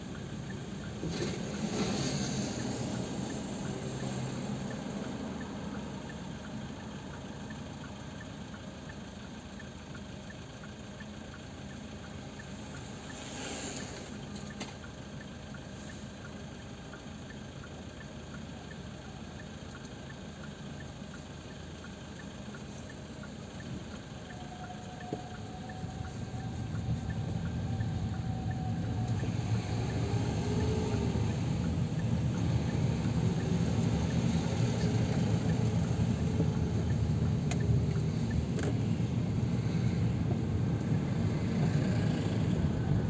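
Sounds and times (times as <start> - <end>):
faint regular ticking: 0.0 - 1.0, 2.4 - 43.0
car cabin hum and hiss: 0.0 - 43.0.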